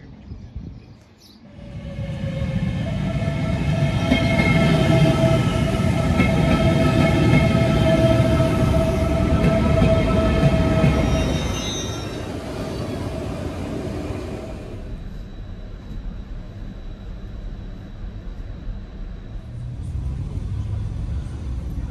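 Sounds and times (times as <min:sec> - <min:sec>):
electric train running: 0:01.5 - 0:21.9.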